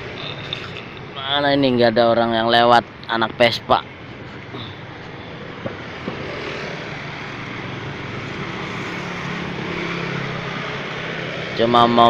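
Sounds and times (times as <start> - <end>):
street traffic passing: 0.0 - 12.0.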